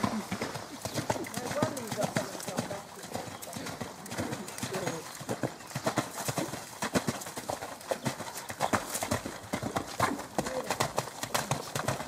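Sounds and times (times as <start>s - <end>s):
horse hooves cantering on wet sand: 0.0s - 12.0s.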